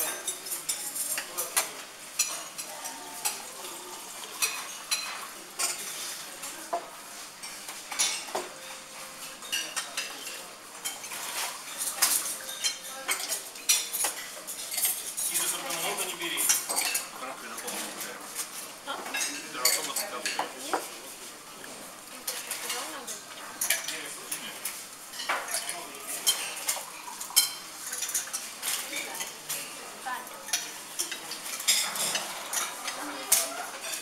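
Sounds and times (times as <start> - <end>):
cutlery clinking on plates: 0.0 - 21.0, 22.3 - 29.8, 30.4 - 34.0.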